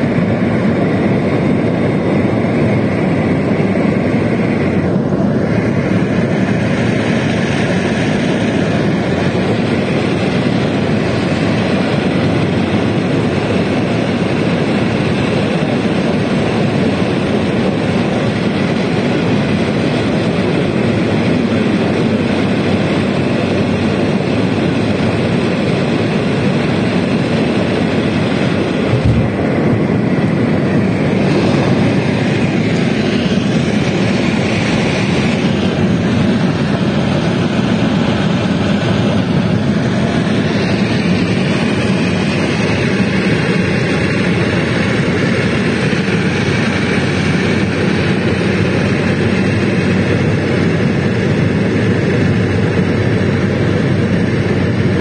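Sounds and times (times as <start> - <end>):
aircraft engines in cabin: 0.0 - 55.0.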